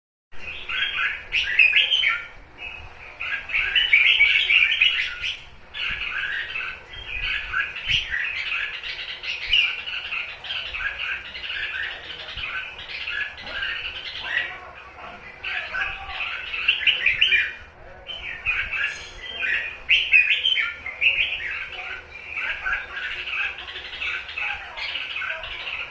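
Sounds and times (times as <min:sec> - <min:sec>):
bulbul chirping calls: 0:00.4 - 0:14.6, 0:15.4 - 0:25.9.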